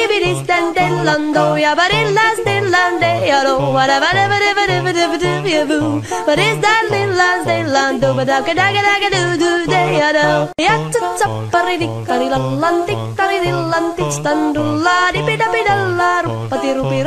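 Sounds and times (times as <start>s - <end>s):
fast yodel-like vocal song: 0.0s - 17.0s
bouncing bass line: 0.2s - 17.0s.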